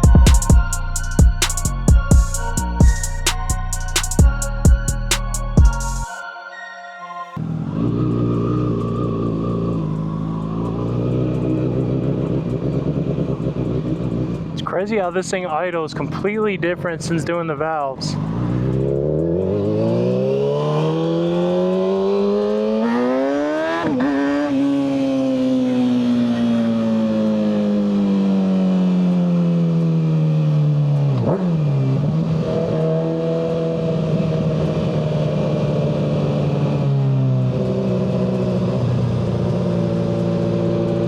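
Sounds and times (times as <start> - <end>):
motorcycle engine revving: 7.4 - 41.0.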